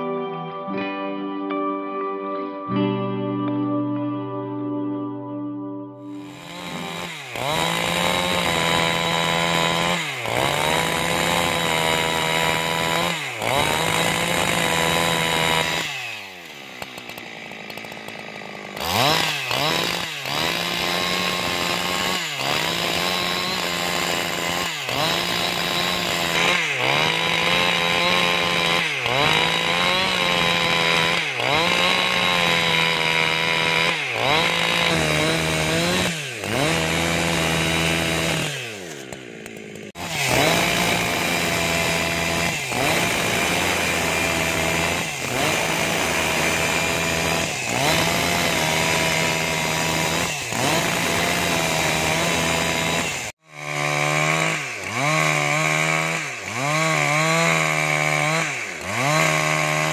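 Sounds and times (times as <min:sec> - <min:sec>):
chainsaw cutting a log: 0:06.1 - 0:59.9.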